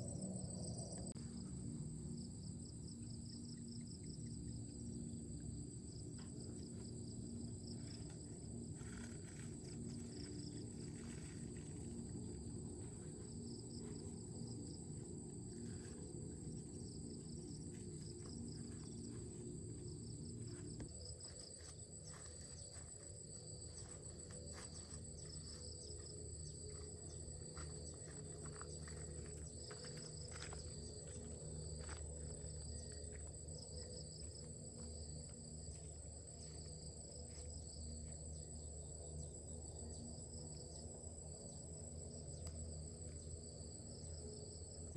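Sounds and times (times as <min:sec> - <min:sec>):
insects trilling: 0:00.0 - 0:44.9
pulsing insect trill: 0:00.0 - 0:44.9.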